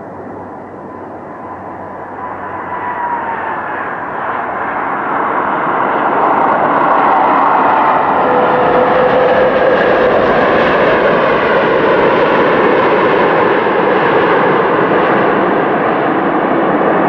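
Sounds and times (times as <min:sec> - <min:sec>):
airplane engines running: 0:00.0 - 0:17.0.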